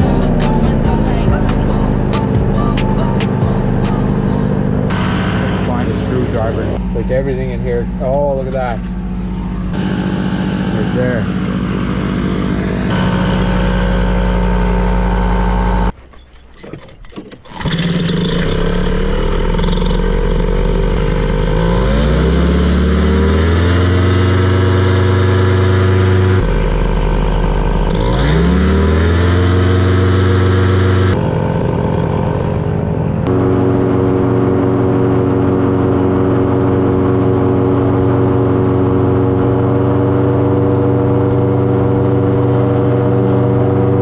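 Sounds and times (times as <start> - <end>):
paramotor engine and propeller: 0.0 - 16.0, 16.6 - 44.0.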